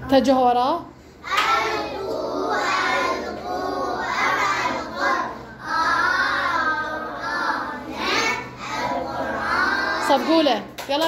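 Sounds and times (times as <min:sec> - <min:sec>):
children chanting in unison: 0:01.2 - 0:10.3.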